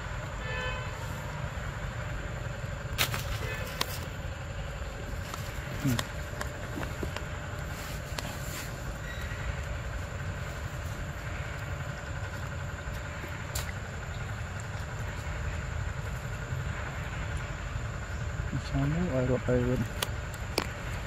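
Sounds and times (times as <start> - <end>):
constant low rumble: 0.0 - 21.0.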